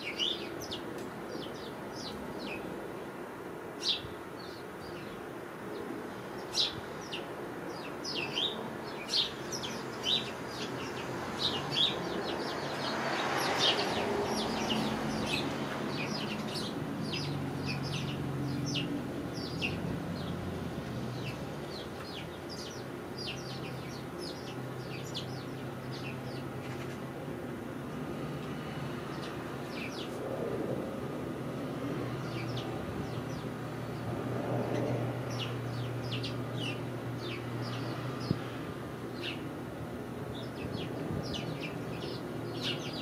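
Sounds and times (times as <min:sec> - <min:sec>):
sparrows chirping: 0:00.0 - 0:43.0.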